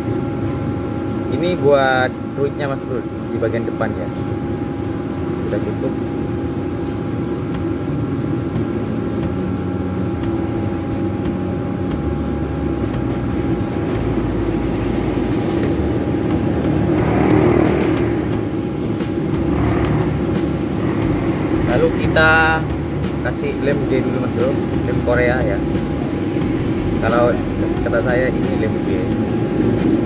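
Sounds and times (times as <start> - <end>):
faint hum: 0.0 - 30.0
steady low rumble: 0.0 - 30.0.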